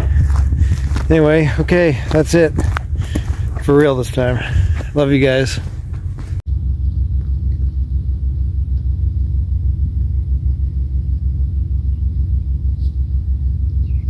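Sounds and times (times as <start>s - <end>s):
pulsing low rumble: 0.0s - 14.0s.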